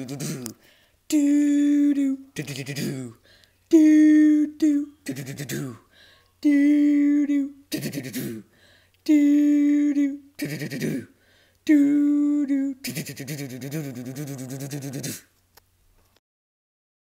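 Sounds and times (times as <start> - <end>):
person humming: 0.0 - 15.3.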